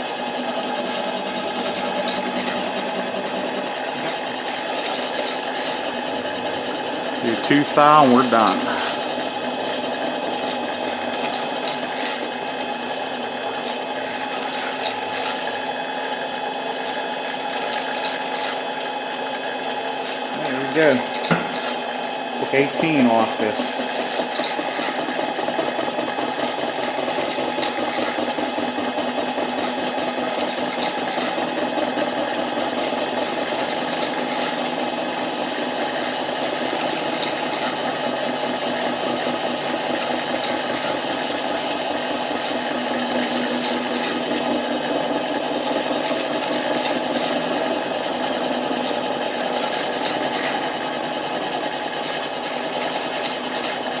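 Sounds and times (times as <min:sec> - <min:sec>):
lathe running with high whine: 0:00.0 - 0:54.0.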